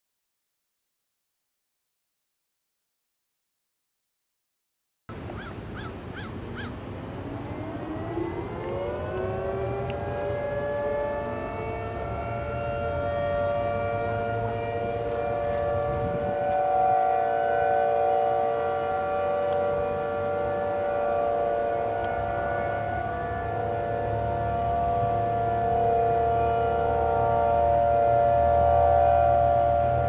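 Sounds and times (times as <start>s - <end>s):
tornado sirens winding up: 5.1s - 30.0s.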